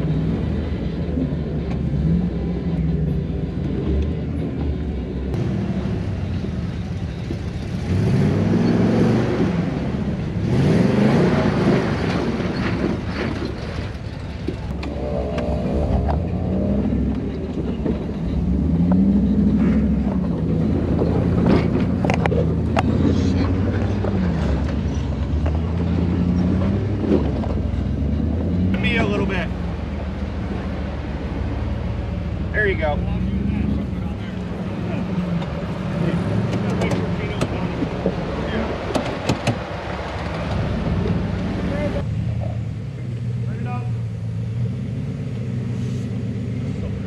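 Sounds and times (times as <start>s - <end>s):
engine revving under load: 0.0s - 13.5s, 14.7s - 47.0s.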